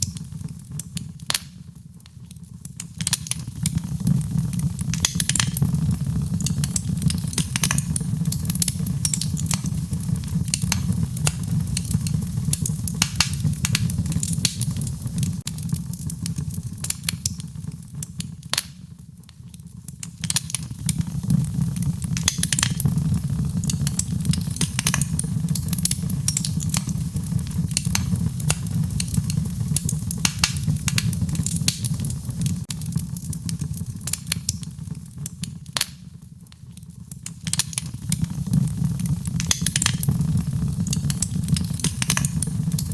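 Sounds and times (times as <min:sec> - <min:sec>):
low rumble of fire: 0:00.0 - 0:42.9
wood fire crackling and popping: 0:00.0 - 0:42.9.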